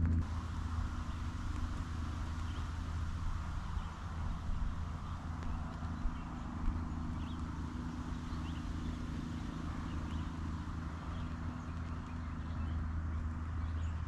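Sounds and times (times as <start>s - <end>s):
low hum: 0.0s - 14.0s
faint chirps: 0.2s - 12.8s
steady rain: 0.2s - 13.7s.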